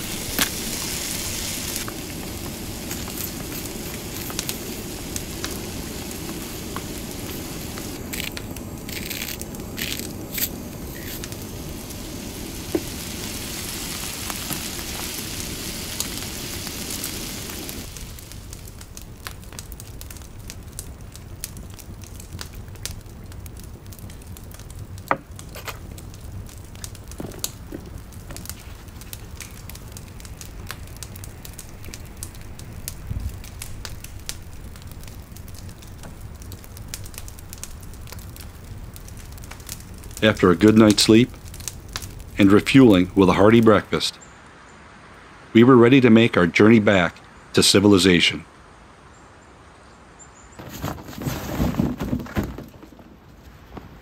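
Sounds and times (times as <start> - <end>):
eggs sizzling in frying pan: 0.0 - 43.8
light crackles and clicks: 0.0 - 44.3.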